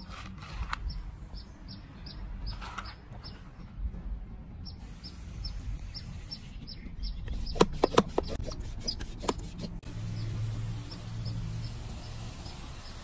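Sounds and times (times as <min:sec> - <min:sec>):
bird chirping: 0:00.8 - 0:03.5, 0:04.5 - 0:13.0.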